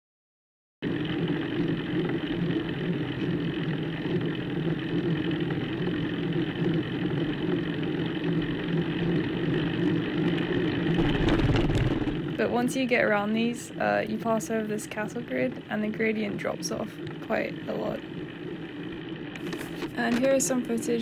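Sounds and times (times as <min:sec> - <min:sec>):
bicycle ride hum: 0:00.8 - 0:21.0.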